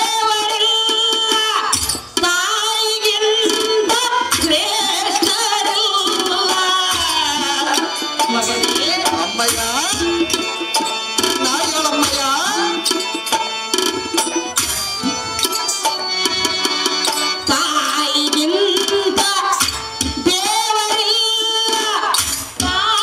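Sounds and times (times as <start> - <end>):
tabla drumming: 0.0 - 23.0.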